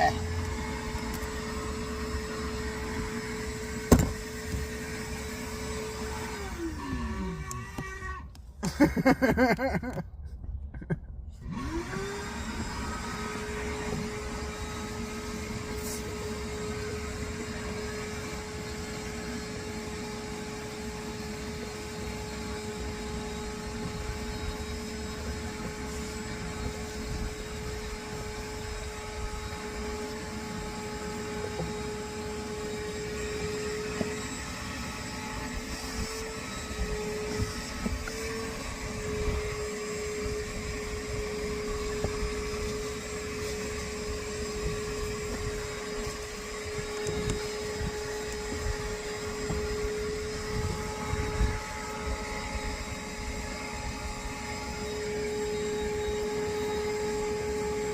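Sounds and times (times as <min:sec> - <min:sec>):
vacuum cleaner motor: 0:00.0 - 0:09.4, 0:11.4 - 0:57.9.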